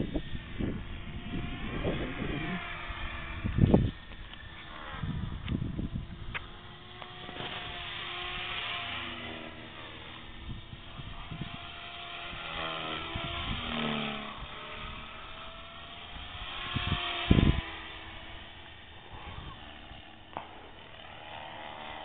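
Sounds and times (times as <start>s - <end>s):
rc helicopter whine: 0.0s - 22.0s.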